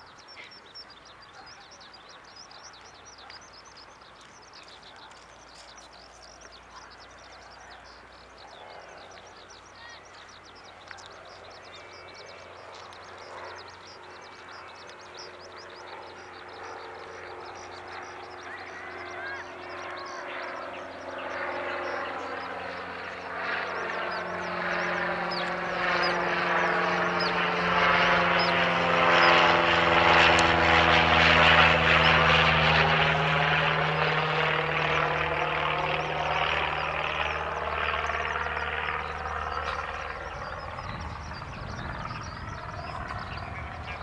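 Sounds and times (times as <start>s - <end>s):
aircraft engine droning overhead: 0.0s - 44.0s.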